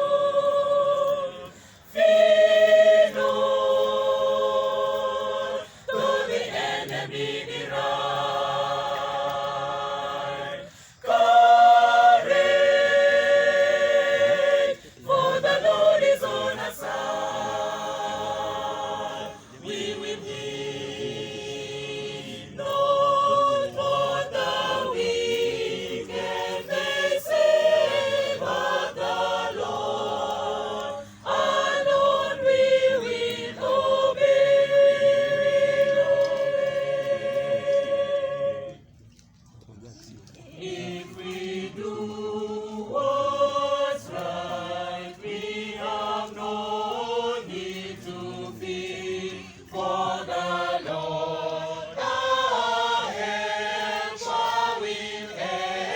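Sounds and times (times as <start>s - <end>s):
choir singing a hymn: 0.0s - 38.9s, 40.5s - 55.9s.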